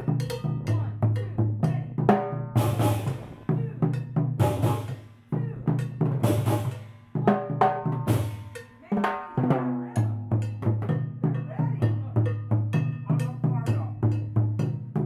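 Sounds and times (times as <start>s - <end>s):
hand drums playing: 0.0s - 15.0s.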